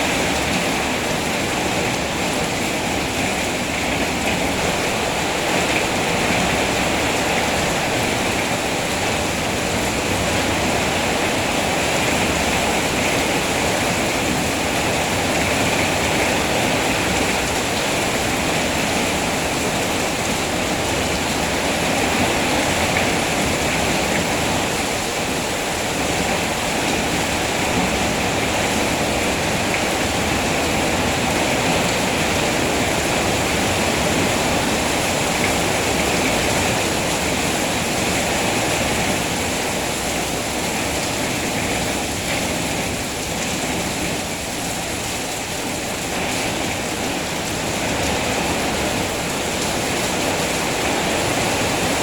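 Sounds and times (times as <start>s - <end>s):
rain falling steadily: 0.0s - 52.0s.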